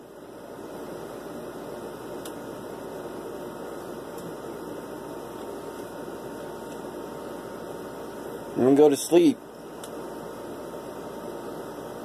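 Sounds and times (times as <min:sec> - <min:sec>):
appliance hum and hiss: 0:00.0 - 0:12.0.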